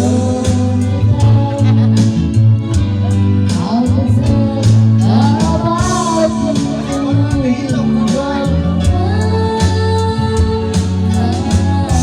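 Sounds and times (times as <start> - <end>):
song with singing and guitar: 0.0 - 12.0.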